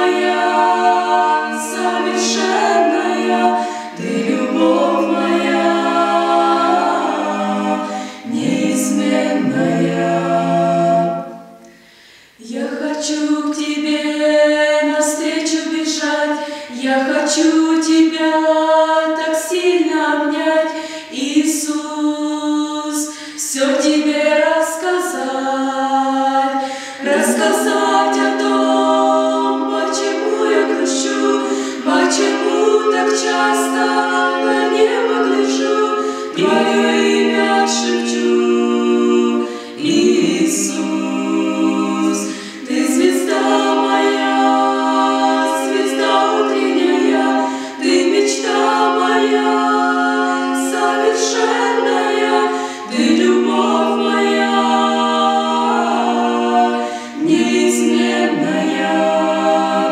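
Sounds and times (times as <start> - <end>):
vocal group singing a cappella: 0.0 - 59.9.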